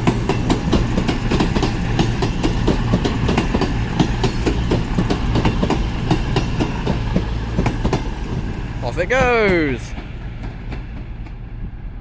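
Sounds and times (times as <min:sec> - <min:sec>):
train wheels clacking over rail joints: 0:00.0 - 0:11.6.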